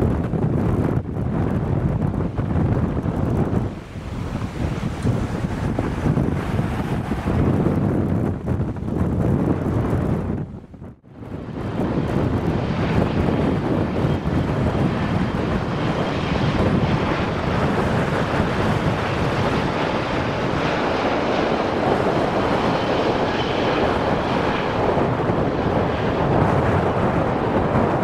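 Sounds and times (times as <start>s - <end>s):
jet engine noise: 0.0s - 28.0s
wind on microphone: 0.0s - 28.0s.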